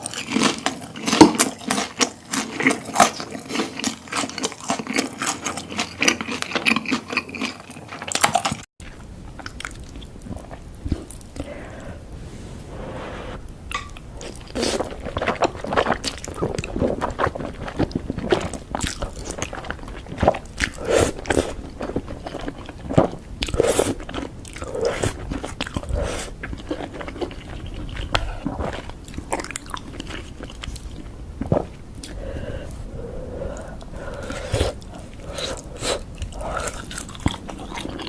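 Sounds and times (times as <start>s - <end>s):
crunching fried chicken: 0.0s - 11.3s, 14.2s - 31.6s, 36.1s - 38.0s
wet chewing: 0.0s - 11.6s, 13.4s - 38.0s.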